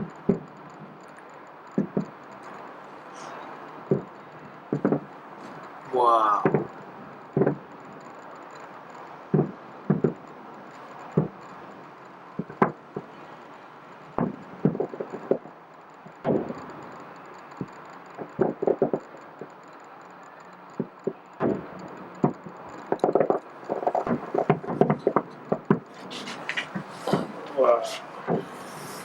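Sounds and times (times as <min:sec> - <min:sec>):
fireworks bursting with bangs: 0:00.0 - 0:29.0
fireworks popping in quick runs: 0:00.0 - 0:29.0.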